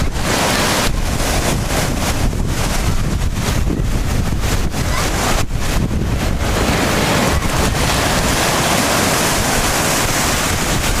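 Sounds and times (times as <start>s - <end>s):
sea surf washing on shore: 0.0s - 11.0s
wind rumbling on microphone: 0.0s - 11.0s.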